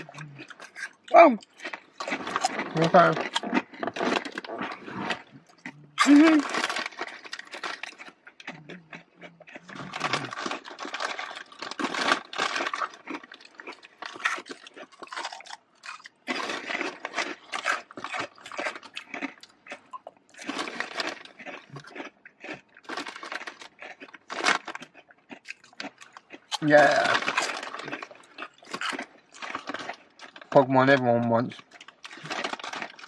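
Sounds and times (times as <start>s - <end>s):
food crunching and chewing: 0.0s - 33.0s.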